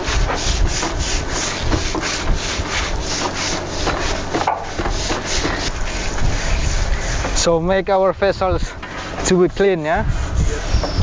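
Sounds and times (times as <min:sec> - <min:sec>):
brush scrubbing wet deck: 0:00.0 - 0:11.0.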